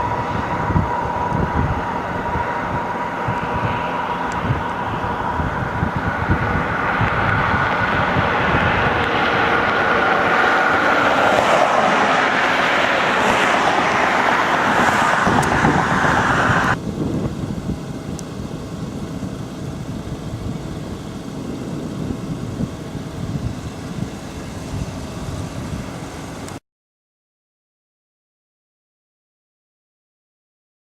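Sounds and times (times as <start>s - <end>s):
car road and wind noise: 0.0s - 26.6s.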